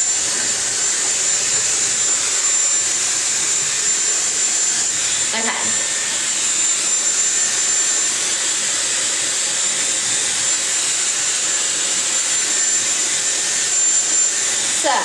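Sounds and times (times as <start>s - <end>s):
hair dryer brush running: 0.0s - 15.0s.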